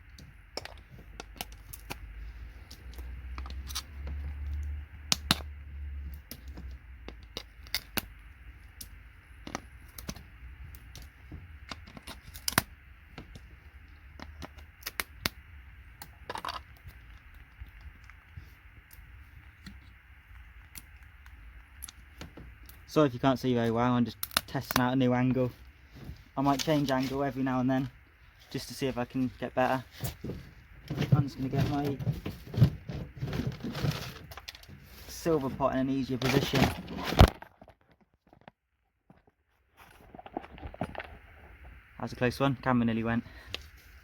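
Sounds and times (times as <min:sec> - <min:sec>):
low rumble of handling: 0:00.0 - 0:42.3.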